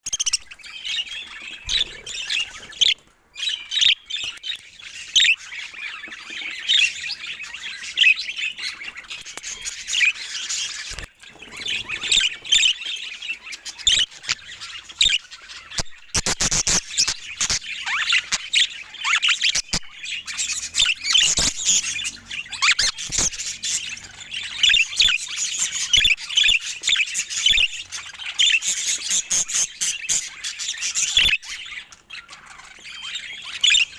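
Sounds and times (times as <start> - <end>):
budgies chattering: 0.1 - 33.9.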